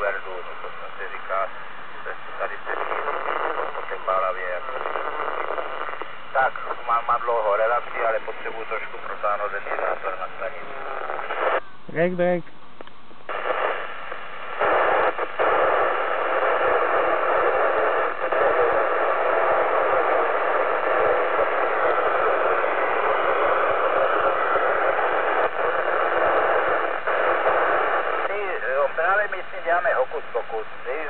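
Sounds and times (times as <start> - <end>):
radio static: 0.0 - 31.0.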